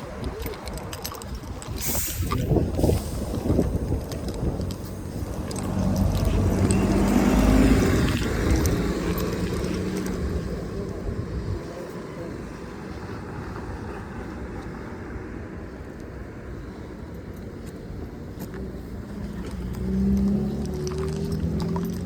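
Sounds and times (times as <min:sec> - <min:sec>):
bus engine rumbling: 0:00.0 - 0:22.0
steady background noise: 0:00.0 - 0:22.0.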